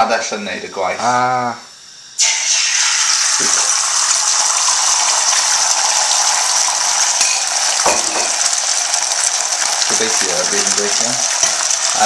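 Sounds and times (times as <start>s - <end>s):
egg sizzling in a pan: 0.0s - 12.0s.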